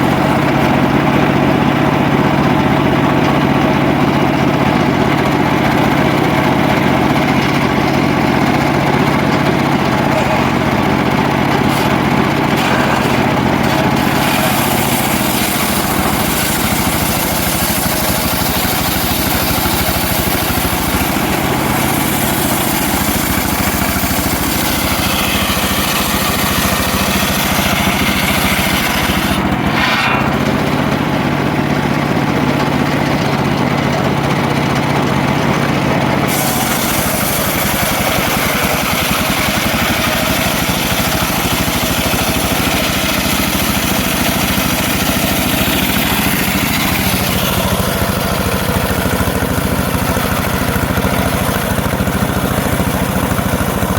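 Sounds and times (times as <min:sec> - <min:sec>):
circular sawmill sawing a log: 0:00.0 - 0:53.9.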